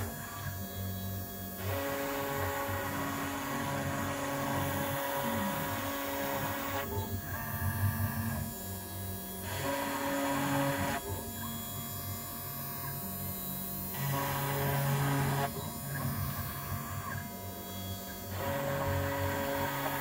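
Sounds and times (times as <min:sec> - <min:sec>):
stepper motors whining: 0:00.0 - 0:20.0.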